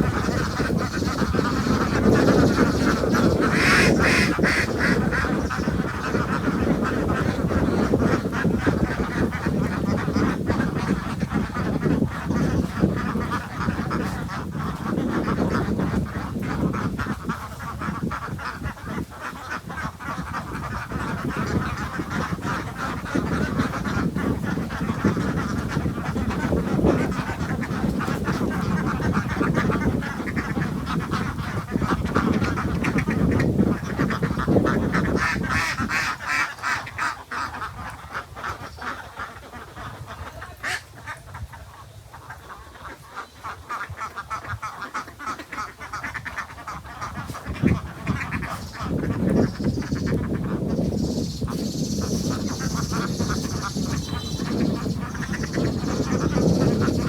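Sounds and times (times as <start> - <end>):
ducks and geese quacking and honking: 0.0 - 57.0.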